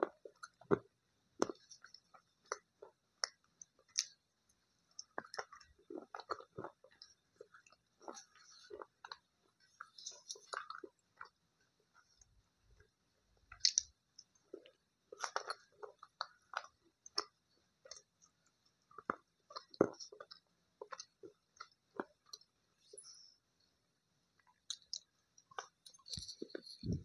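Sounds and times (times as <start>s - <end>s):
chewing crunchy pieces: 0.0s - 4.2s, 5.0s - 11.4s, 13.4s - 23.2s, 24.4s - 27.0s.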